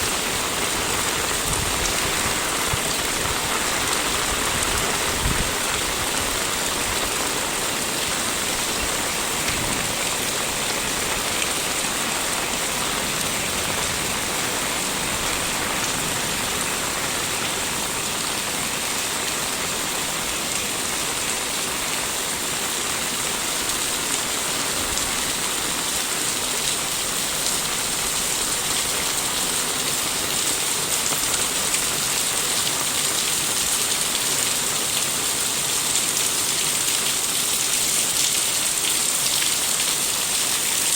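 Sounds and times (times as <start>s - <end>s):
fine rain pattering: 0.0s - 40.9s.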